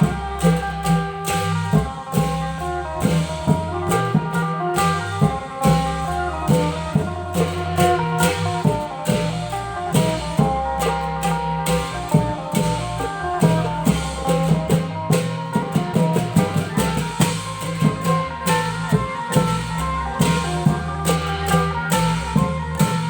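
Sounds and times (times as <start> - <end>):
long drum ensemble beat: 0.0 - 23.0.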